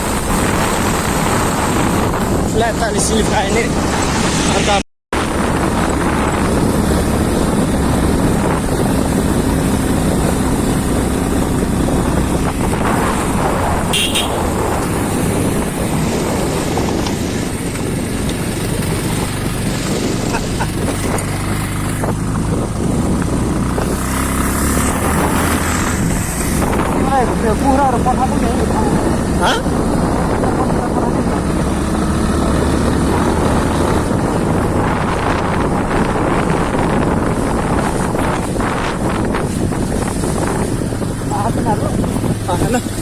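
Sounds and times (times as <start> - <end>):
motorcycle engine running: 5.2 - 43.0.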